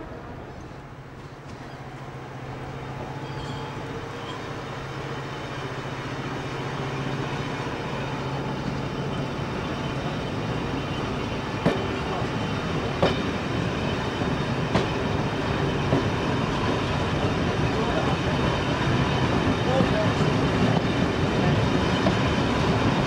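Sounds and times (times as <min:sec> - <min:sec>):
diesel locomotive engine drone: 0:00.0 - 0:23.0
train running noise: 0:00.0 - 0:23.0.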